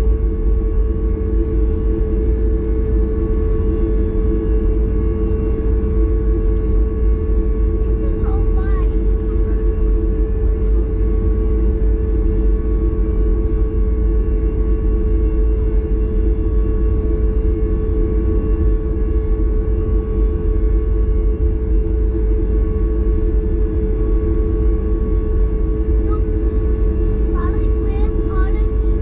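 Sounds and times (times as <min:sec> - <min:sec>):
aircraft cabin engine drone: 0:00.0 - 0:29.0
steady whine: 0:00.0 - 0:29.0.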